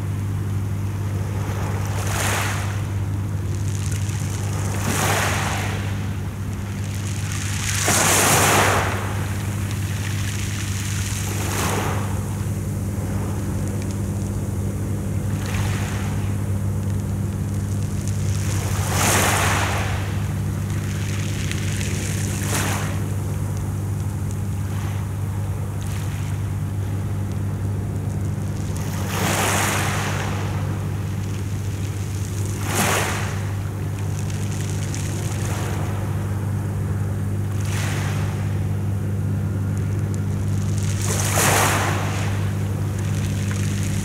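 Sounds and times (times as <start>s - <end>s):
steady low hum: 0.0s - 44.0s
waves washing onto pebble beach: 1.2s - 44.0s.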